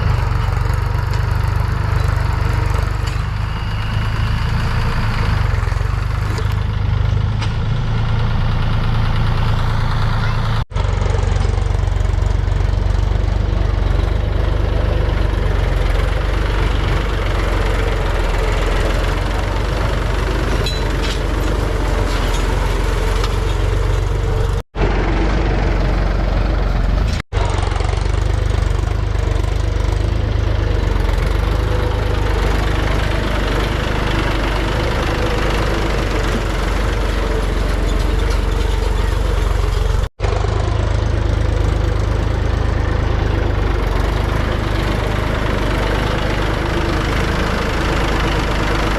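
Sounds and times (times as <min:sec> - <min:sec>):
heavy diesel engine rumbling: 0:00.0 - 0:48.9.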